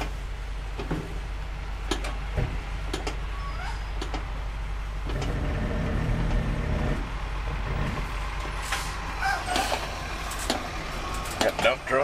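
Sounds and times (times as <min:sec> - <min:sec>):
engine and road noise: 0:00.0 - 0:12.0.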